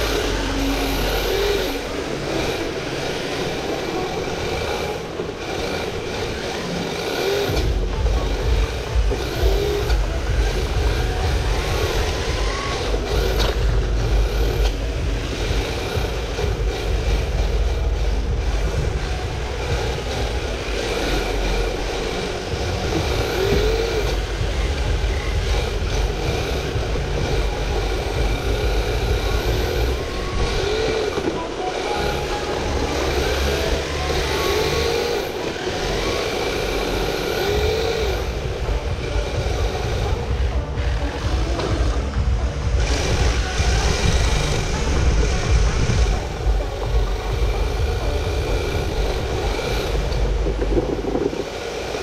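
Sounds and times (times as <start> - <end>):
rc car wheels rumbling: 0.0 - 52.0
rising and falling tones: 0.0 - 52.0.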